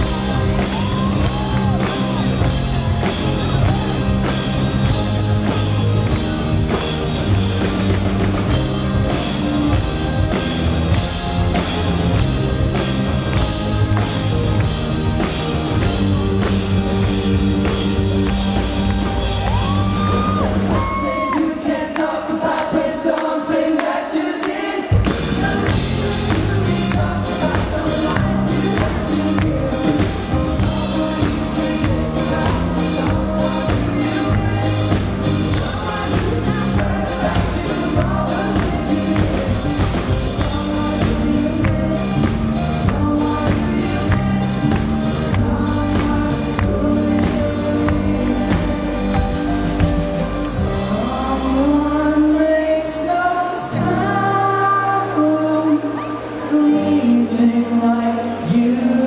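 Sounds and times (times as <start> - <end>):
live rock band playing: 0.0 - 21.7, 24.9 - 59.0
lead vocals singing: 0.0 - 59.0.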